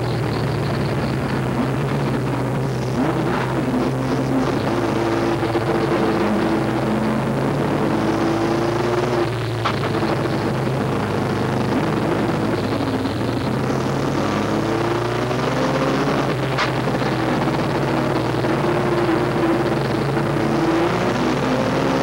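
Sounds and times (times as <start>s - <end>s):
truck engine running hard: 0.0s - 22.0s.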